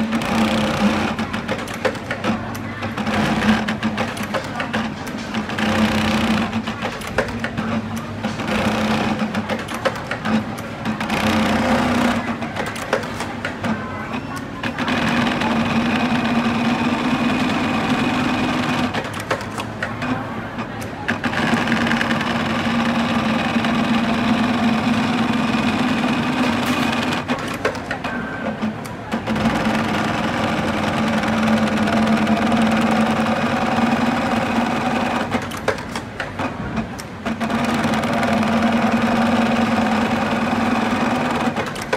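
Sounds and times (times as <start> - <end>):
sewing machine stitching: 0.0 - 13.7, 21.1 - 36.6, 37.2 - 41.9.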